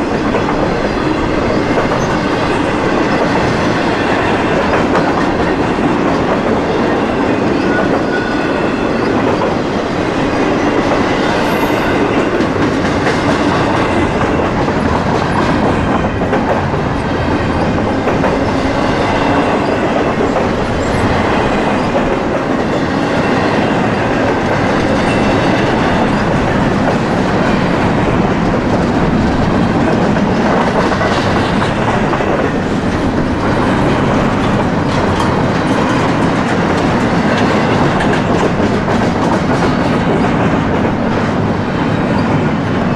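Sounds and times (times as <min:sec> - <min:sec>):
train wheels on rail: 0:00.0 - 0:42.9.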